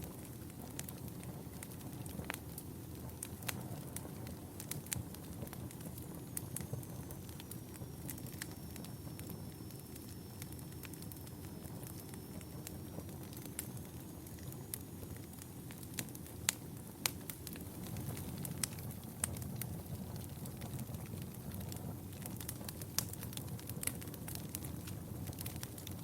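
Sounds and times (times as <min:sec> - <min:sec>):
fire crackles and pops: 0:00.0 - 0:26.0
low rumble of flames: 0:00.0 - 0:26.0.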